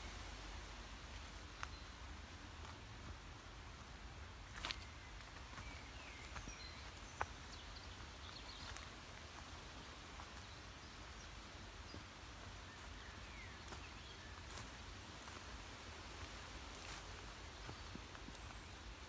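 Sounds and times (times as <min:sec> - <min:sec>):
birds chirping: 0:00.0 - 0:19.0
low steady hiss: 0:00.0 - 0:19.0
footsteps on forest floor: 0:01.1 - 0:19.0.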